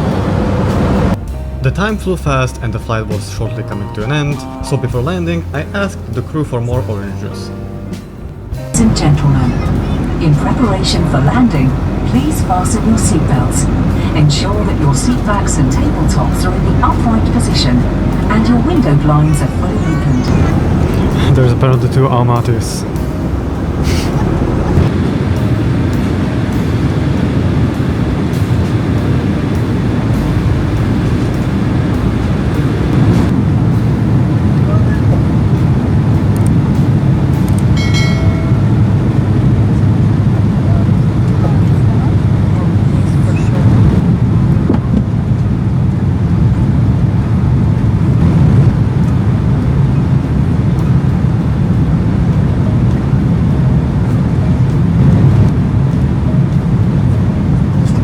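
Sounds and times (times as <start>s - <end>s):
airliner cabin engine and airflow: 0.0s - 58.0s.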